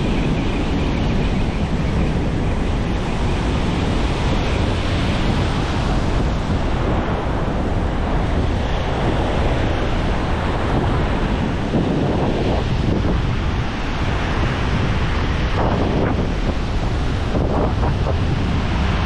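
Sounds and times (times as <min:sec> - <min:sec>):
ocean surf breaking: 0:00.0 - 0:19.0
wind rumbling on microphone: 0:00.0 - 0:19.0.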